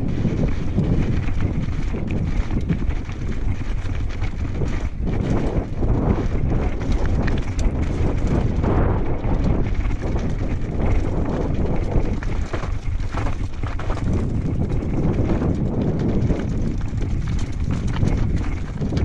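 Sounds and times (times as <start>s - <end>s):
bike clattering: 0.0s - 19.0s
tyres crunching on gravel: 0.0s - 19.0s
wind buffeting microphone: 0.0s - 19.0s.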